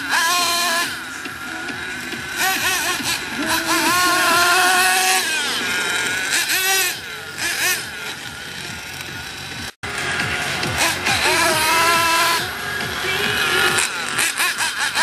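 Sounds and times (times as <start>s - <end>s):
radio-controlled car motor revving: 0.0s - 15.0s.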